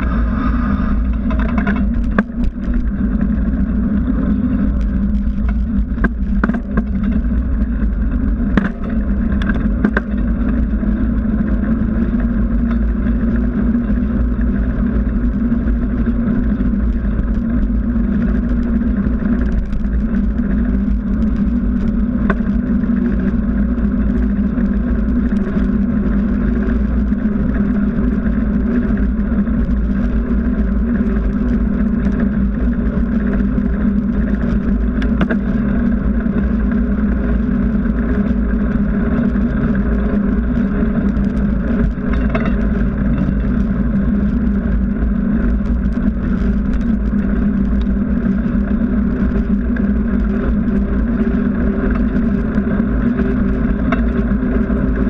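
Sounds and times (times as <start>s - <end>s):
tyre humming on asphalt: 0.0s - 55.0s
wind rumbling on microphone: 0.0s - 55.0s.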